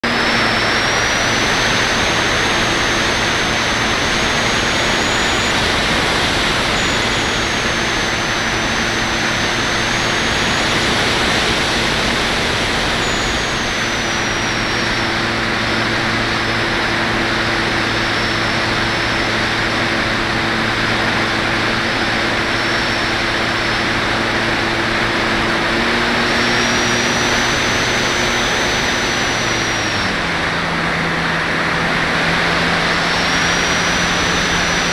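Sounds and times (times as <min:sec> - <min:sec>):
steady low hum: 0:00.0 - 0:34.9
thin high whine: 0:00.0 - 0:34.9.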